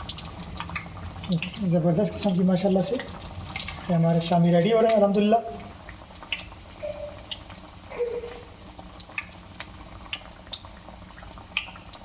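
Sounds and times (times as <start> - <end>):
food sizzling in hot oil: 0.0 - 12.0
oil popping and crackling: 0.0 - 12.0.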